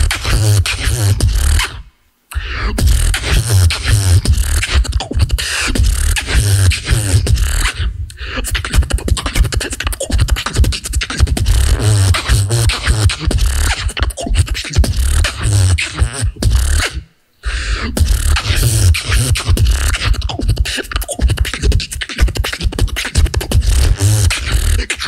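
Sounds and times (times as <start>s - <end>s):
person beatboxing: 0.0s - 25.0s.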